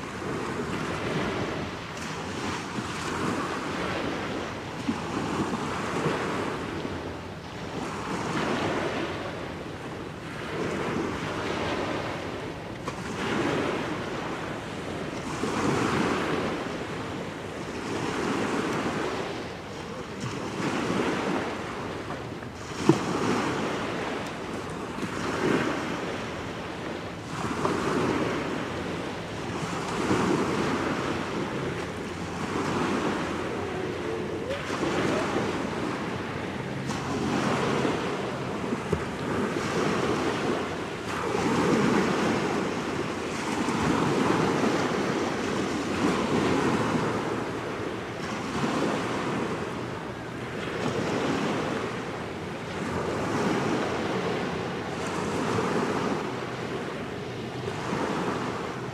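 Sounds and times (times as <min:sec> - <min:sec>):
small waves washing onto shore: 0:00.0 - 0:58.9.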